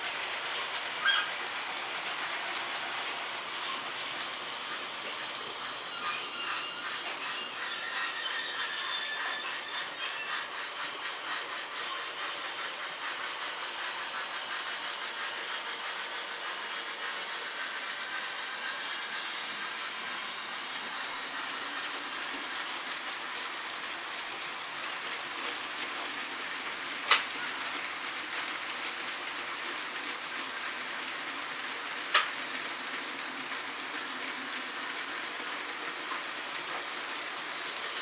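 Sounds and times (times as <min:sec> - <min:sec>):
model train wheels and motors whirring: 0:00.0 - 0:38.0.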